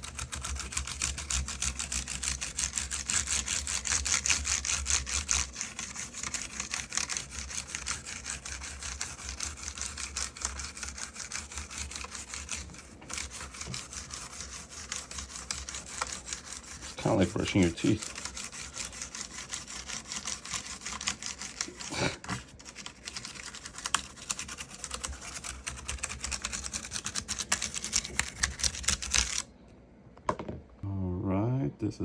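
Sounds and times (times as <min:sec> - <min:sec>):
brush scrubbing a keyboard: 0:00.0 - 0:29.5.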